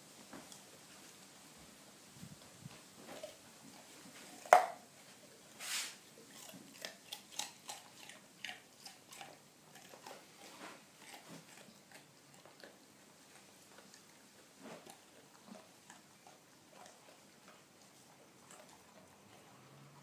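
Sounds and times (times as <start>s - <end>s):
dog chewing a raw carrot: 2.7s - 20.0s.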